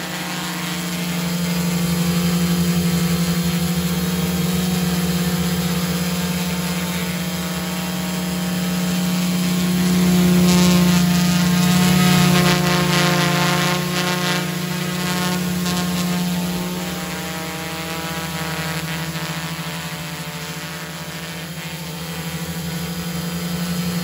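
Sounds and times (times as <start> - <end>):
quadcopter motors buzzing whine: 0.0 - 24.0.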